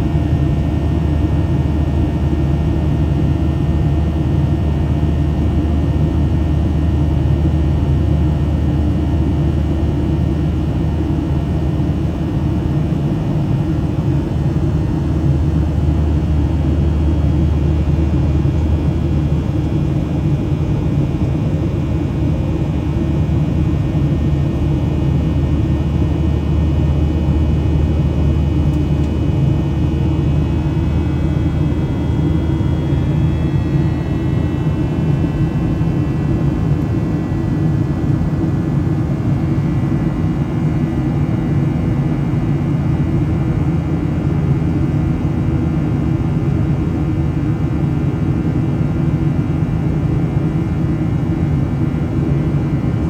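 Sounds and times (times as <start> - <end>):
jet engines and airflow drone: 0.0 - 53.0.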